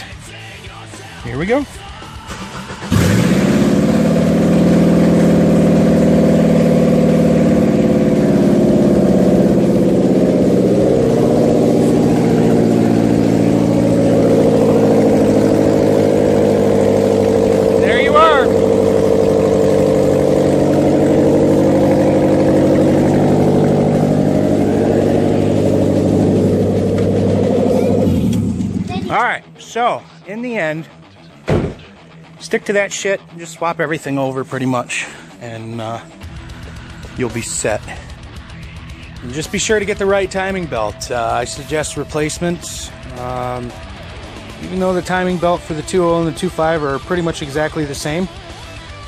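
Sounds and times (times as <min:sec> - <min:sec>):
loud unmuffled car engine idling: 0:00.0 - 0:29.4, 0:33.8 - 0:49.0.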